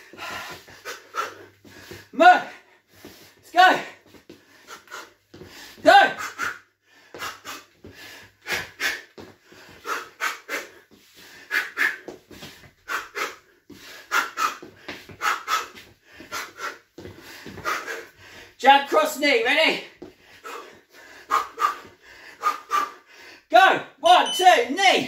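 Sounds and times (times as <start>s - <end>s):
heavy breathing: 0.0s - 18.6s, 19.8s - 23.5s
man's sharp breaths out: 0.0s - 18.6s, 20.2s - 23.5s.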